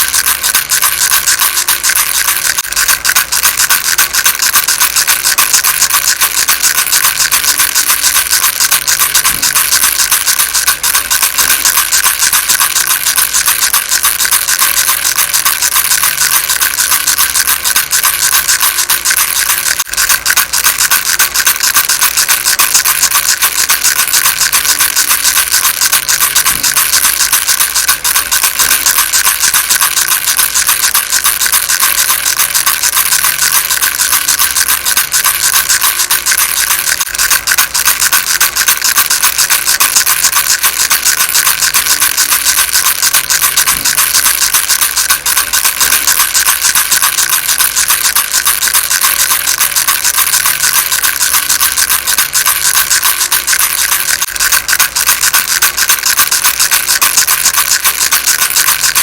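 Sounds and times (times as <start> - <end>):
baby rattle shaken: 0.0 - 59.0.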